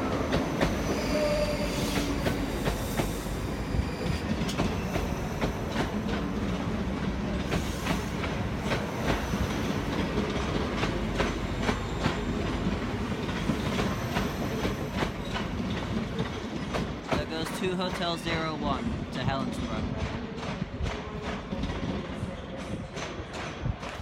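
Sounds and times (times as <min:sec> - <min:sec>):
train running hum: 0:00.0 - 0:24.0
train wheels clacking over joints: 0:00.1 - 0:24.0.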